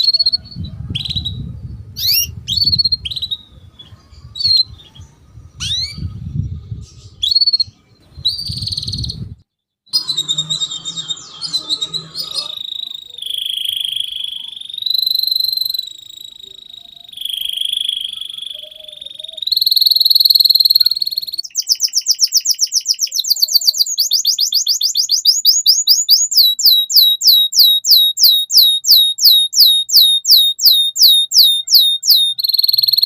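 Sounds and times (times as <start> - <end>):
canary singing: 0.0 - 1.4, 2.0 - 9.3, 9.9 - 33.0.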